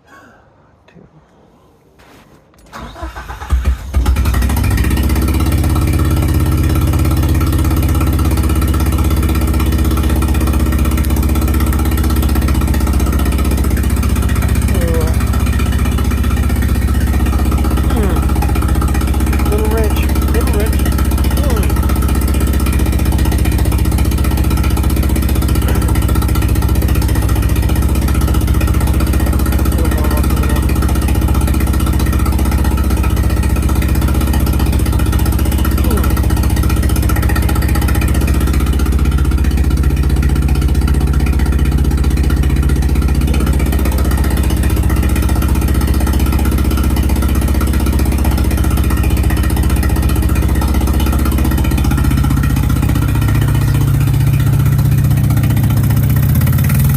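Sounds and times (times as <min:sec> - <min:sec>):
car engine idling: 0:02.0 - 0:56.9.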